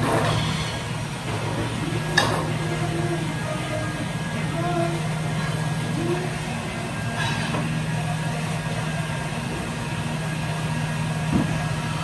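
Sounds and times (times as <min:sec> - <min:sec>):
extraction hood fan drone: 0:00.0 - 0:12.0.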